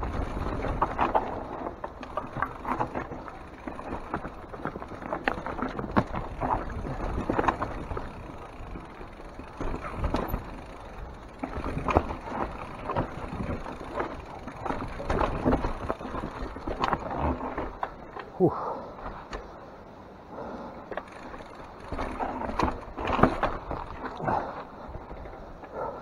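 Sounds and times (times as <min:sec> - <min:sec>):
bike tyres rolling over rock: 0:00.0 - 0:18.4, 0:20.8 - 0:25.8
wheels knocking on rocks: 0:00.0 - 0:18.4, 0:20.9 - 0:25.8
bike rattling: 0:00.0 - 0:26.0.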